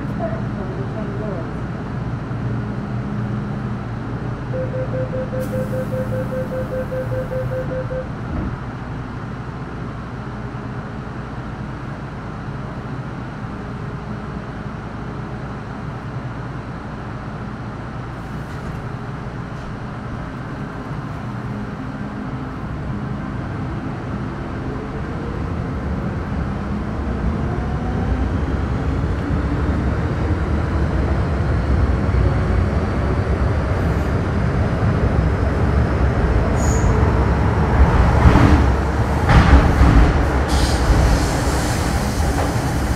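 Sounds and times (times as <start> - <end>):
train running rumble: 5.4 - 42.9.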